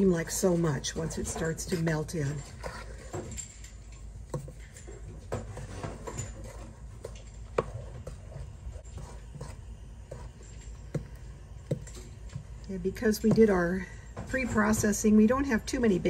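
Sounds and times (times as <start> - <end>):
spoon stirring thick mixture: 0.0 - 15.8.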